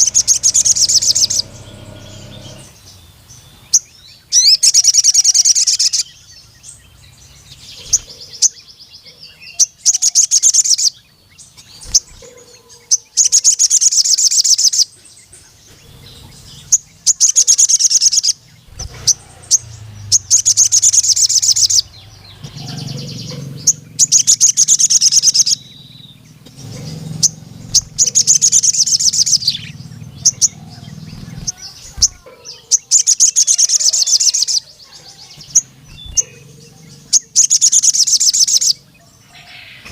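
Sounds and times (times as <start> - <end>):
bird high rapid trilling: 0.0 - 3.0, 3.6 - 6.2, 7.4 - 8.6, 9.6 - 14.9, 15.6 - 39.9
bird soft chirps: 0.0 - 39.0.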